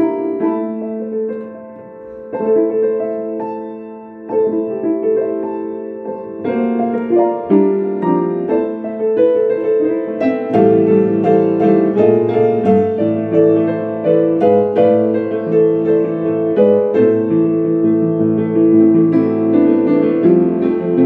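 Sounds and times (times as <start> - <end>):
ambient piano music: 0.0 - 21.0.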